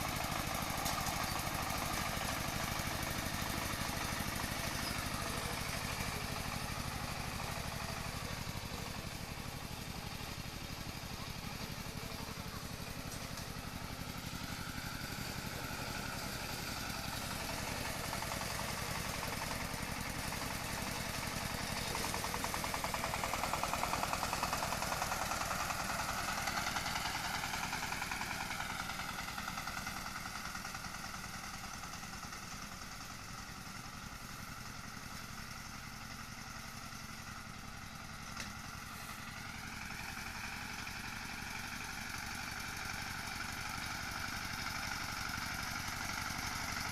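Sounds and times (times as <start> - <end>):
engine running: 0.0 - 46.9.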